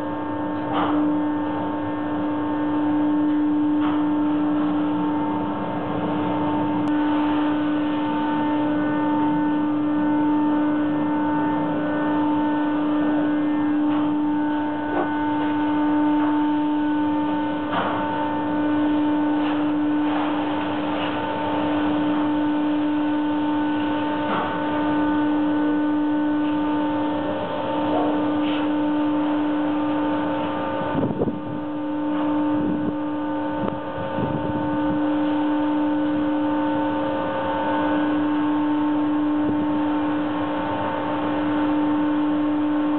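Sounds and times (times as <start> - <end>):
machinery steady hum: 0.0 - 42.9.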